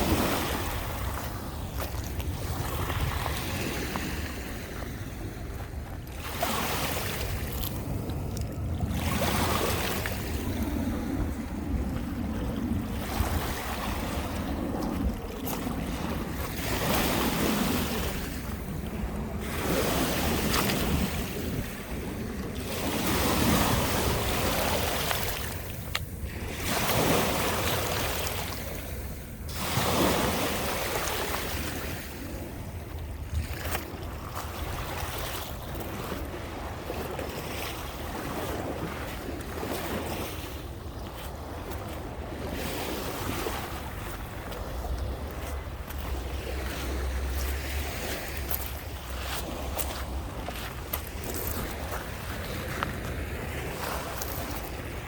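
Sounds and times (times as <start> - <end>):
waves breaking on a beach: 0.0 - 55.0
wind rumbling on microphone: 0.0 - 55.0.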